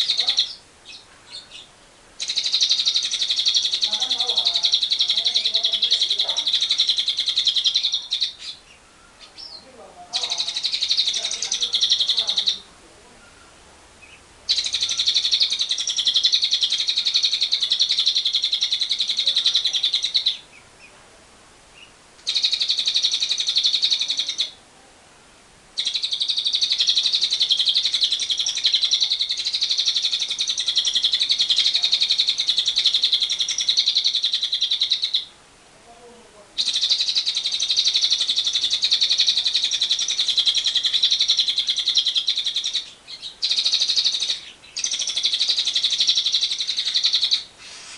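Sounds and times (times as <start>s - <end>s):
lovebird chatter trill: 0.0s - 12.7s, 13.3s - 20.9s, 21.8s - 24.6s, 25.8s - 35.3s, 36.6s - 47.9s.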